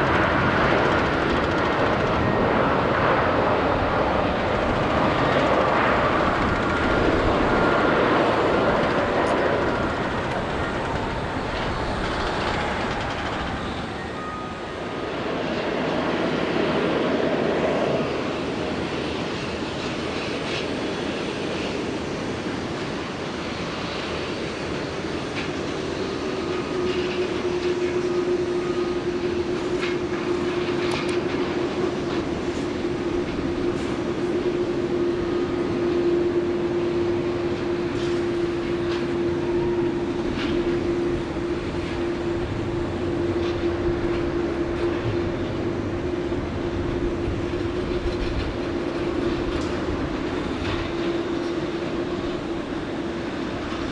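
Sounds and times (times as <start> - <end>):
faint engine whine: 0.0 - 53.9
jet engines roaring: 0.0 - 53.9.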